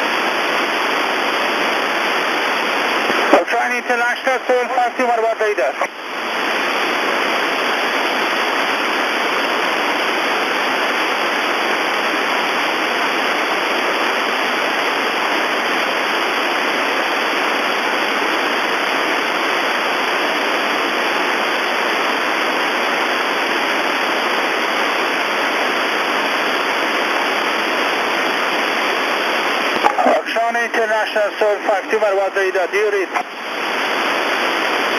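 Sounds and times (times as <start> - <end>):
radio hiss: 0.0 - 34.9.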